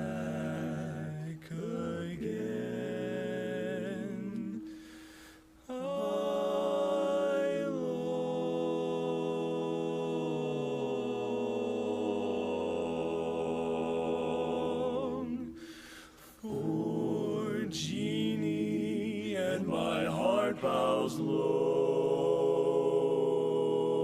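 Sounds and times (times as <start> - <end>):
quartet singing in close harmony: 0.0 - 4.8, 5.7 - 15.6, 16.4 - 24.0.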